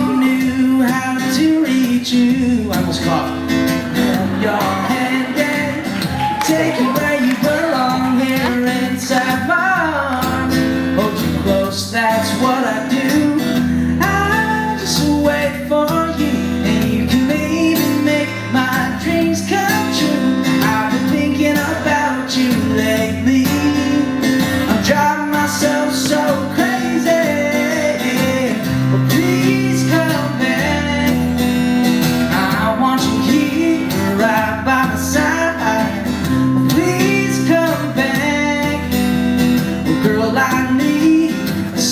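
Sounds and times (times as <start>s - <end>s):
man singing: 0.0s - 41.9s
strummed acoustic guitar: 0.0s - 41.9s.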